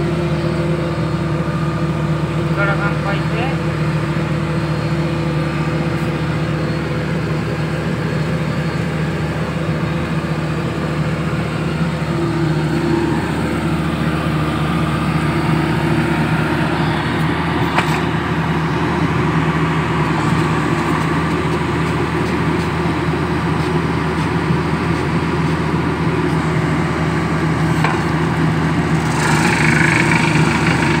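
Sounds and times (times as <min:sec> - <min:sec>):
drilling rig engine droning: 0:00.0 - 0:31.0.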